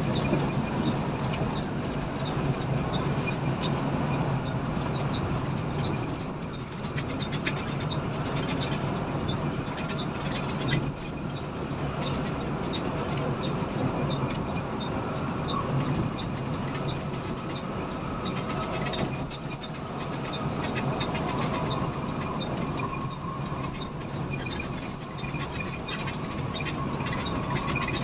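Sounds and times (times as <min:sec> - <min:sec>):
coach engine drone: 0:00.0 - 0:28.0
road rumble: 0:00.0 - 0:28.0
light regular ticking: 0:00.1 - 0:28.0.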